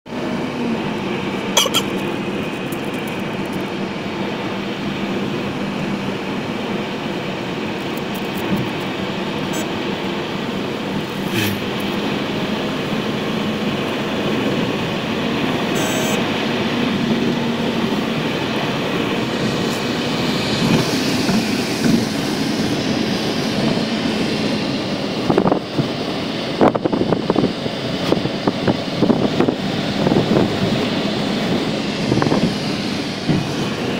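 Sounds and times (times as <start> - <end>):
car road and engine drone: 0.0 - 33.9.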